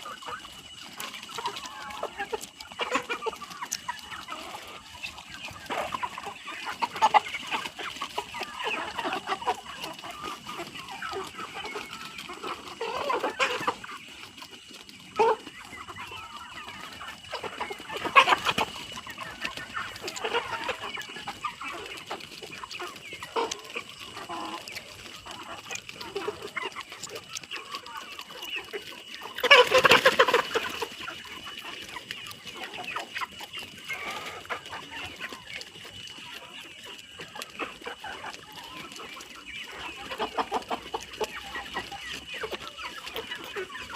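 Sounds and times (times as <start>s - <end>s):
chickens clucking and squawking: 0.0s - 43.9s.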